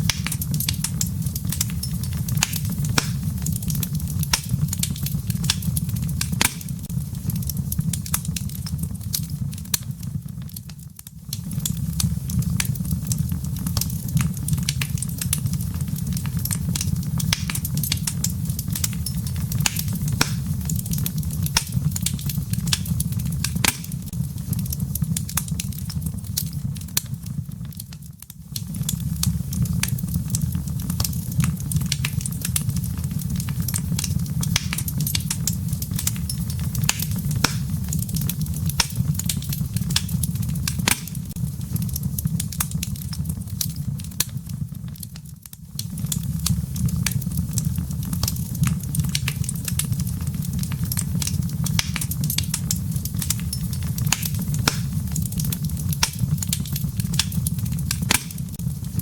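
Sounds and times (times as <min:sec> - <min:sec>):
fire rumbling: 0:00.0 - 0:59.0
firewood crackling and popping: 0:00.0 - 0:59.0.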